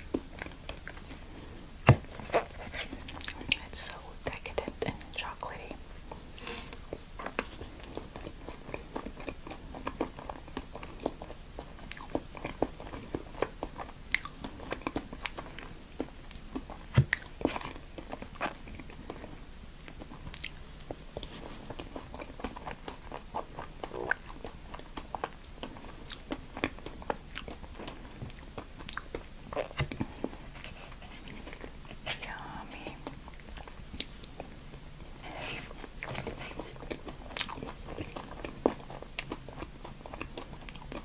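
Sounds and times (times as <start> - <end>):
crunchy food chewing: 0.0 - 3.7, 6.1 - 41.0.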